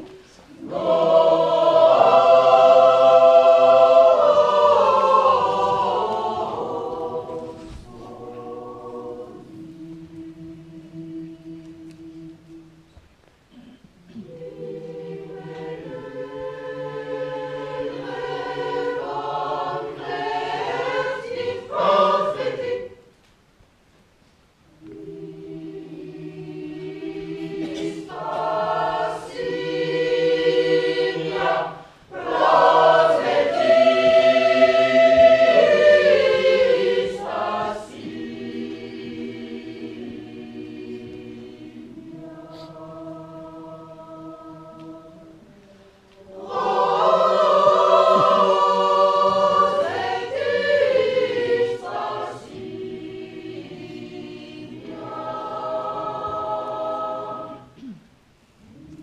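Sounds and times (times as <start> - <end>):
choir singing sustained chords: 0.0 - 23.1, 24.7 - 59.0.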